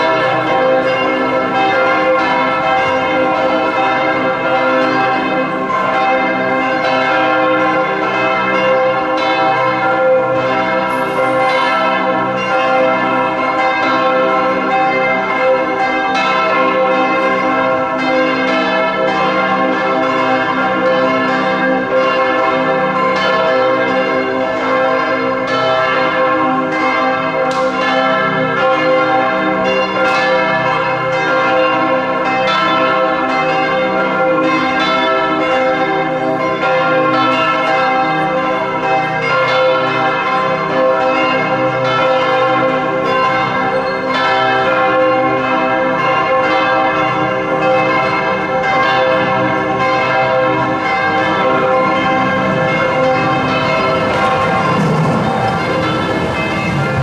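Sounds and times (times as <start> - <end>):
church bells pealing: 0.0 - 57.0.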